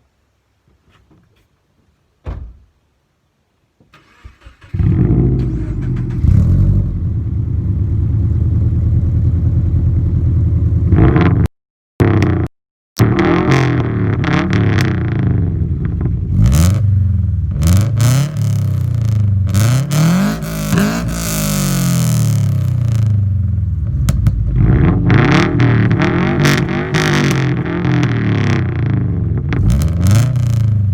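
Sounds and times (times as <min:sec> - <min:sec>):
engine revving with loud exhaust: 0:04.7 - 0:30.9.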